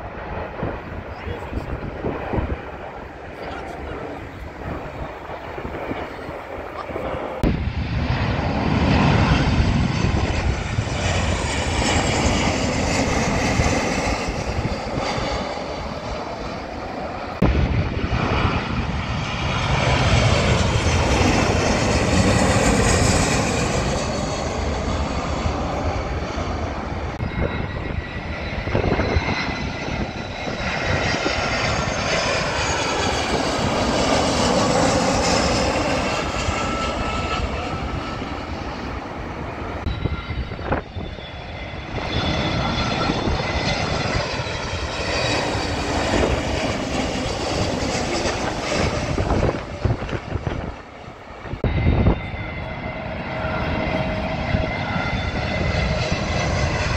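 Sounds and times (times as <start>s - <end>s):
jet airliner passing overhead: 0.0s - 56.9s.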